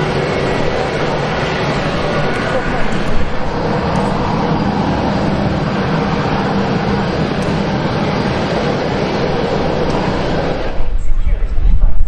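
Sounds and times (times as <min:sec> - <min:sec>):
jet engine whine and rumble: 0:00.0 - 0:12.0.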